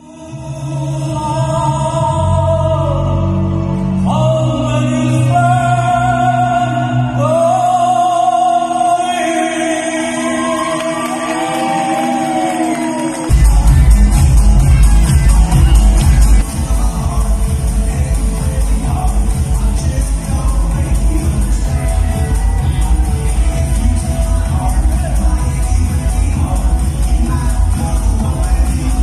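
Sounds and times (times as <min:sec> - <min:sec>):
man singing a slow ballad: 0:00.0 - 0:14.1, 0:16.4 - 0:29.0
choir-like backing chords: 0:00.0 - 0:29.0.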